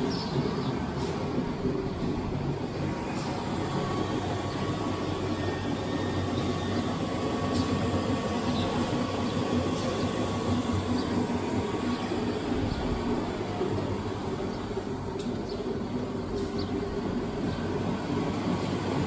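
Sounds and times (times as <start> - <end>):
low mechanical rumble and hum: 0.0 - 19.0.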